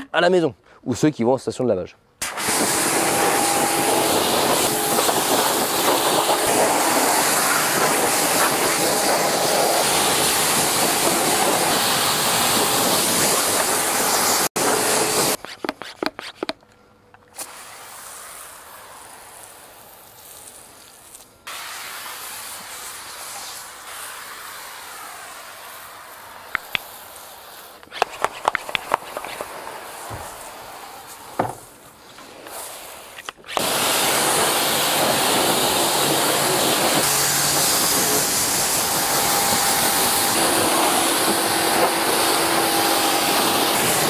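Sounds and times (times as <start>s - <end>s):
pressure washer spraying water: 2.2s - 15.4s, 17.4s - 31.8s, 32.4s - 44.0s.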